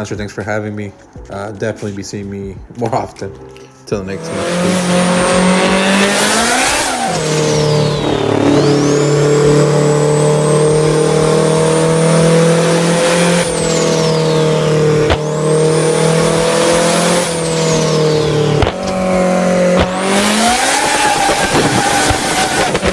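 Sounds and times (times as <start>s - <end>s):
car engine accelerating through gears: 4.2s - 22.9s
turbo whine: 4.2s - 22.9s.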